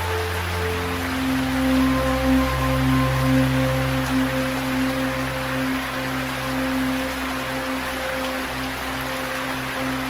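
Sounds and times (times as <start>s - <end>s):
rain hiss: 0.0s - 10.0s
slow ambient music: 0.0s - 10.0s.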